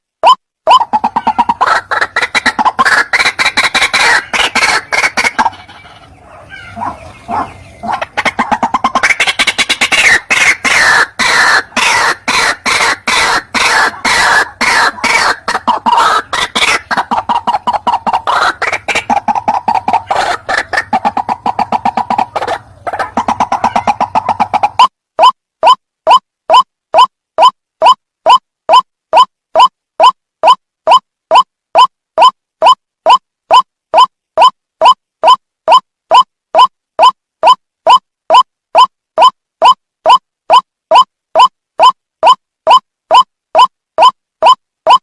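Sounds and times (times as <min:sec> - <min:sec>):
waterhen croaking calls: 0:00.2 - 0:45.0.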